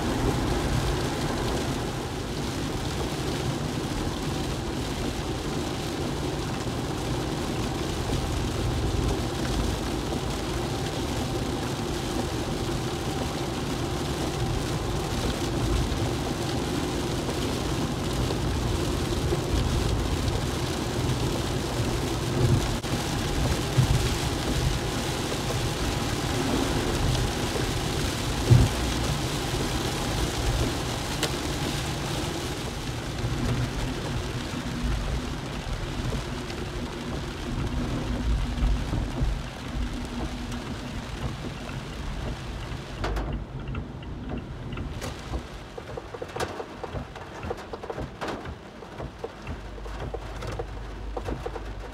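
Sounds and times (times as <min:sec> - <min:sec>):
rain on car: 0:00.0 - 0:51.9
tyres on wet road: 0:00.0 - 0:51.9.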